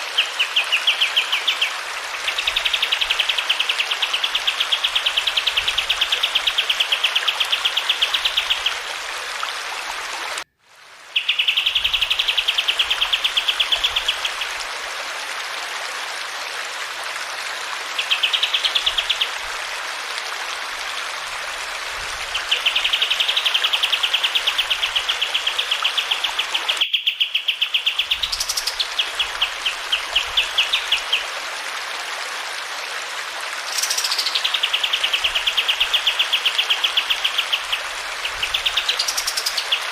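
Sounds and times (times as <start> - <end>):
running water: 0.0 - 26.8, 27.6 - 39.9.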